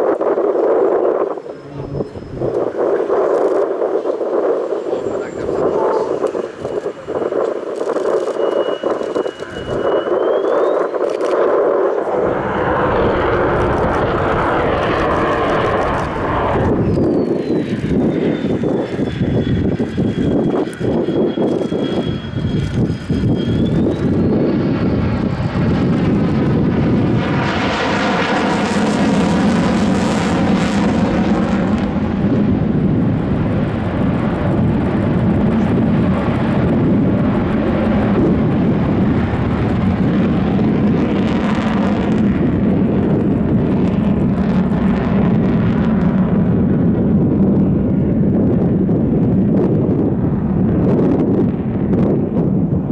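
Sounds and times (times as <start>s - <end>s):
aircraft engine flying past: 1.4s - 48.5s.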